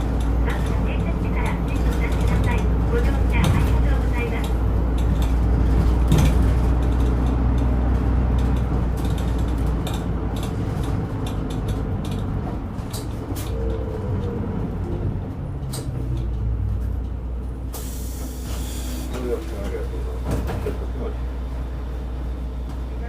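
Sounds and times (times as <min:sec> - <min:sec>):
diesel bus engine droning: 0:00.0 - 0:23.0.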